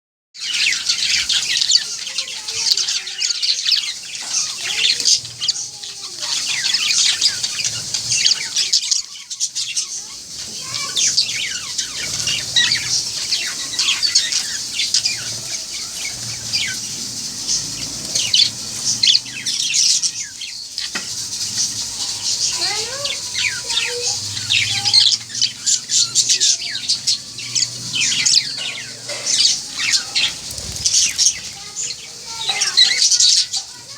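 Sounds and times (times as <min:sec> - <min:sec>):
parrots chattering and chirping: 0:00.4 - 0:33.9.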